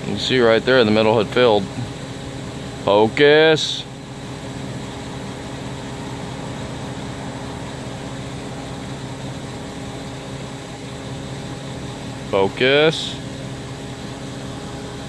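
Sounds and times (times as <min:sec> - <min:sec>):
steady mechanical drone: 0:00.0 - 0:15.0.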